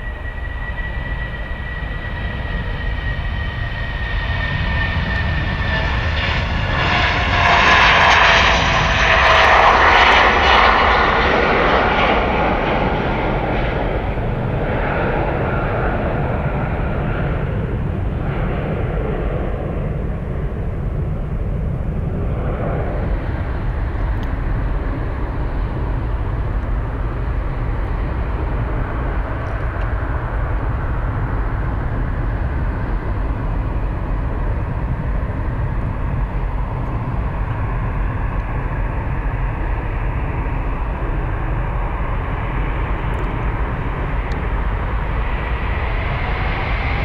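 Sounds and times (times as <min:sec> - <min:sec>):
airplane landing: 0:00.0 - 0:47.0
heavy low rumble: 0:00.0 - 0:47.0
jet engine climbing after takeoff: 0:00.0 - 0:47.0.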